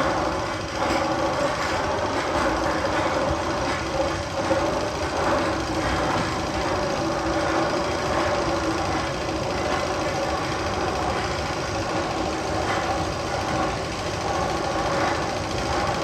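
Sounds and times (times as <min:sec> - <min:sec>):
machinery running and clattering: 0:00.0 - 0:16.0.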